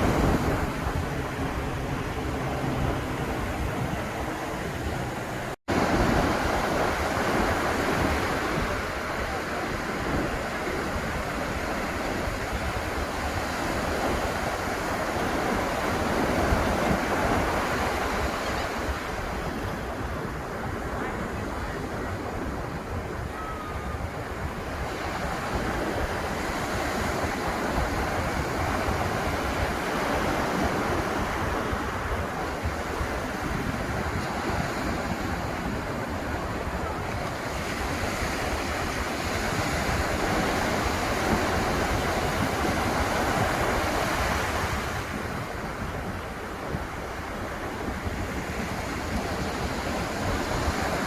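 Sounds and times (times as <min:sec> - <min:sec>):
surf breaking on a beach: 0:00.0 - 0:51.0.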